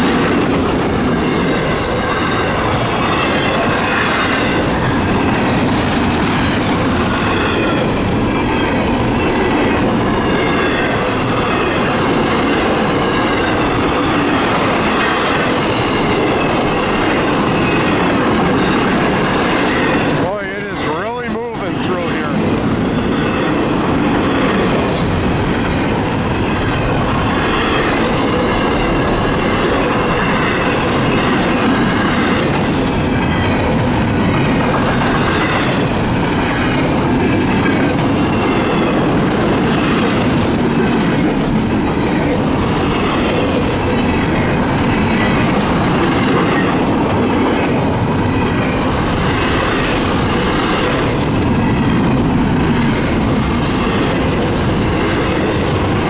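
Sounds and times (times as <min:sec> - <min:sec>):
freight train rolling past: 0:00.0 - 0:56.0
wheels clacking over rail joints: 0:00.0 - 0:56.0.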